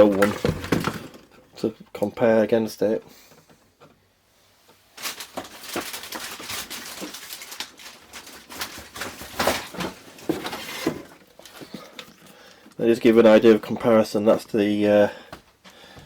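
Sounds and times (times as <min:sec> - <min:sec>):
handling rustles clicks and knocks: 0:00.0 - 0:04.0, 0:04.6 - 0:14.6.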